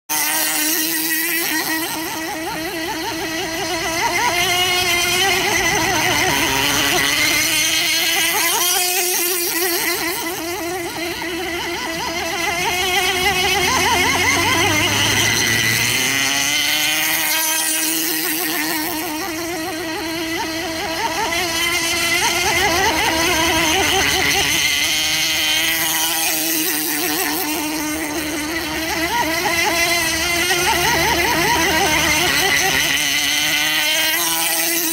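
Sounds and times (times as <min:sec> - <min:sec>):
model boat engine buzzing whine: 0:00.0 - 0:34.9.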